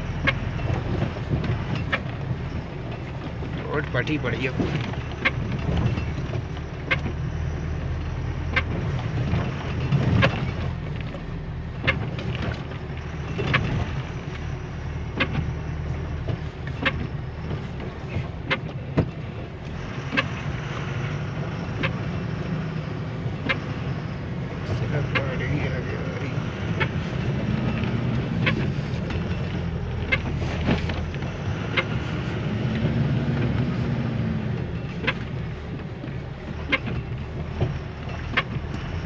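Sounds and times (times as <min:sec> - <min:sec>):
engine and road rumble: 0:00.0 - 0:39.0
windscreen wiper clicking: 0:00.0 - 0:39.0.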